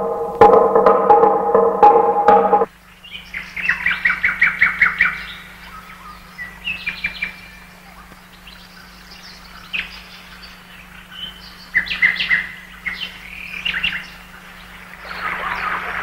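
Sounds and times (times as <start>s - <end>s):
songbirds chirping: 1.8s - 16.0s.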